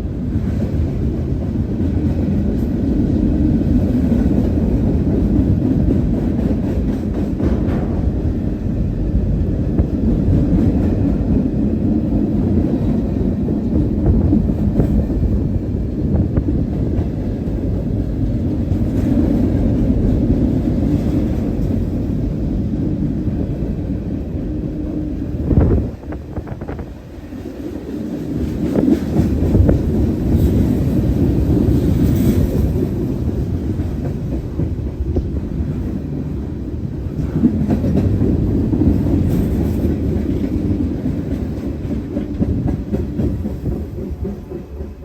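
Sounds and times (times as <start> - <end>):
freight train rumbling on rails: 0.0 - 45.0.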